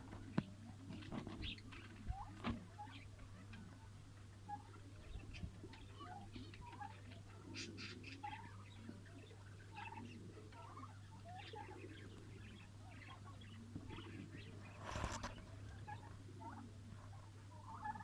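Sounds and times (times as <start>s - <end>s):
birds chattering: 0.1s - 18.0s.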